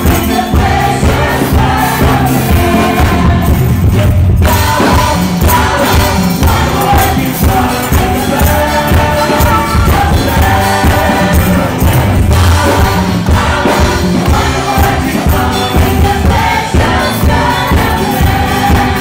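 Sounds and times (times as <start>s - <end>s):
gospel choir singing: 0.0s - 19.0s
loud music with steady beat: 0.0s - 19.0s.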